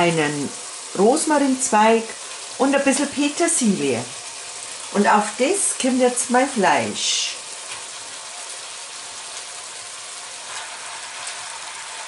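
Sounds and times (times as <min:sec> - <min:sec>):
sauce sizzling in a pot: 0:00.0 - 0:12.0.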